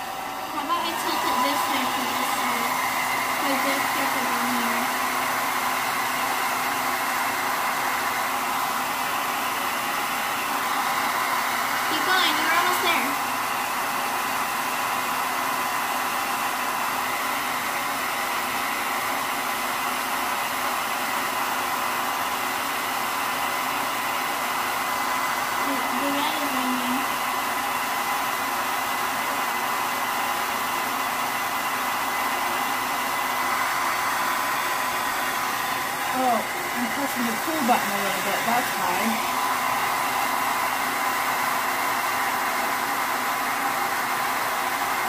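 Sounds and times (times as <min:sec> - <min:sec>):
hair dryer blowing: 0:00.0 - 0:45.0.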